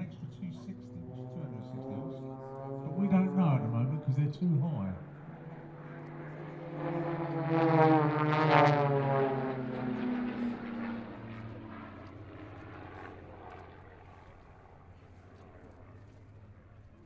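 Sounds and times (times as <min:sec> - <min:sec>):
propeller planes droning overhead: 0:00.0 - 0:17.0.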